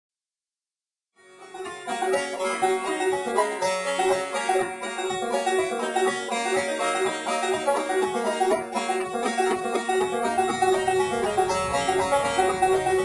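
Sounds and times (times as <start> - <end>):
fast intro music: 1.6 - 13.0.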